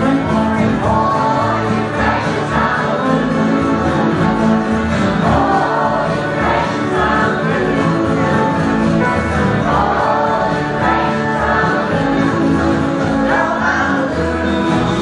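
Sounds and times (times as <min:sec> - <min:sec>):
accordion: 0:00.0 - 0:15.0
acoustic guitars strumming: 0:00.0 - 0:15.0
upright bass: 0:00.0 - 0:15.0
voices singing in unison: 0:00.0 - 0:15.0.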